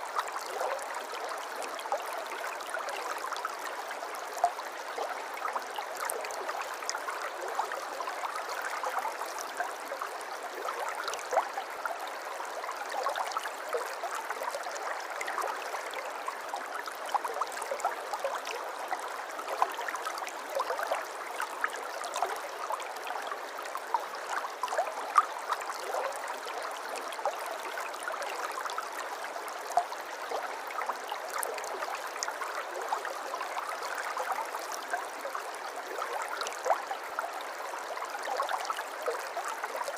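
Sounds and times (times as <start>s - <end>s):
stream babbling and gurgling: 0.0s - 39.9s.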